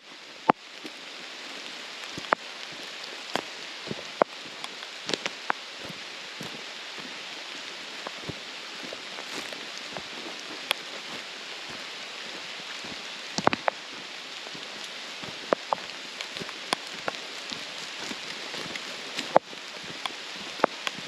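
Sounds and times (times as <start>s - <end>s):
sharp raindrop impacts: 0.0s - 21.0s
steady rain falling: 0.0s - 21.0s.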